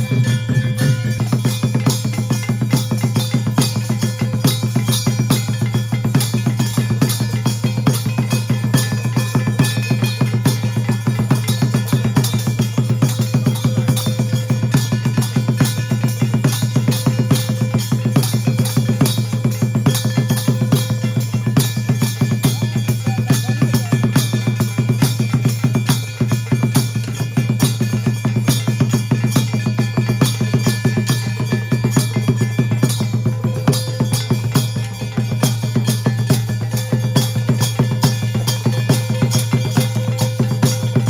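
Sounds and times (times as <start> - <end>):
fast steady drumming: 0.0 - 41.0
sustained ringing tones: 0.0 - 41.0.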